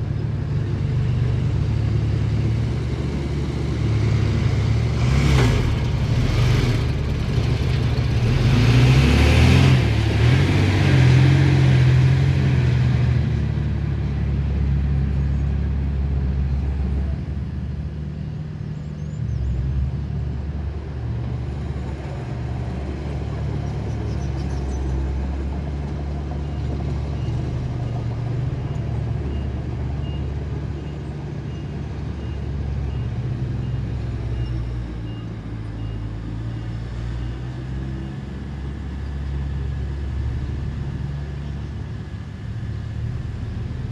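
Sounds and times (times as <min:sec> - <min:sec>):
diesel engines of heavy machinery: 0:00.0 - 0:43.9.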